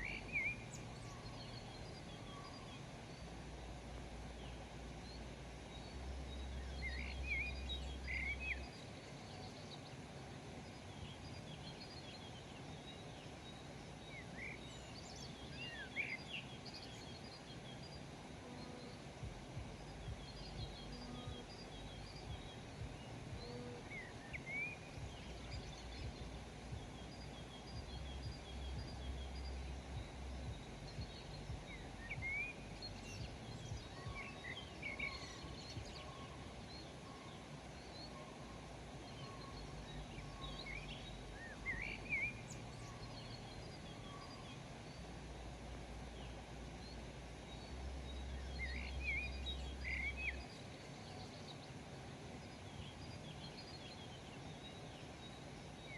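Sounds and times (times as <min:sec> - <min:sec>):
birds chirping and twittering: 0:00.0 - 0:55.9
low background rumble: 0:00.0 - 0:55.9.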